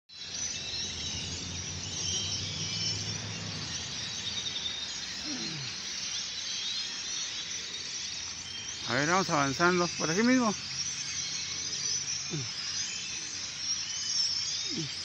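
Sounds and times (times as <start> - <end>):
flock of birds chattering: 0.1 - 15.0.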